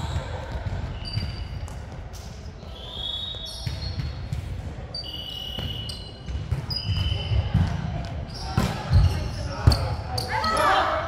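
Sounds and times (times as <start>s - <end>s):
sneakers squeaking on hardwood: 0.0s - 2.0s, 3.2s - 4.4s, 5.0s - 10.8s.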